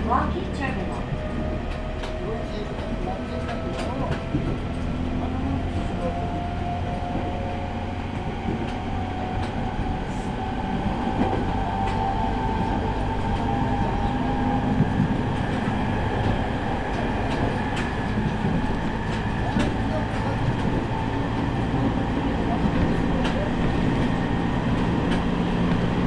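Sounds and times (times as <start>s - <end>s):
rail joint clicks: 0.0s - 26.0s
train wheels rumbling on track: 0.0s - 26.0s.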